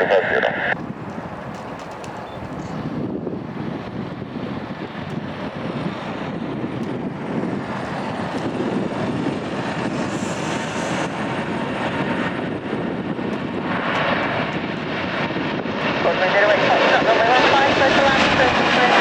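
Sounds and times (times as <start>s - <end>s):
jet engines roaring on takeoff: 0.0s - 19.0s.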